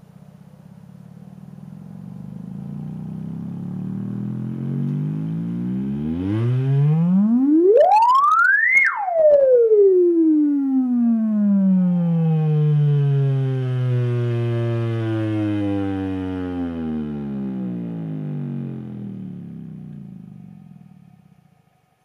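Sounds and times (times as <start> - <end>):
speaker sine sweep tone: 0.0 - 21.7.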